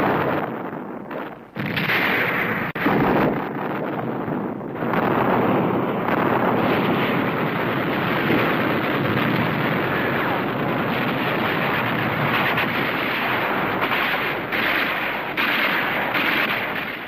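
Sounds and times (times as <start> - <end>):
loud steady rushing noise: 0.0 - 17.0.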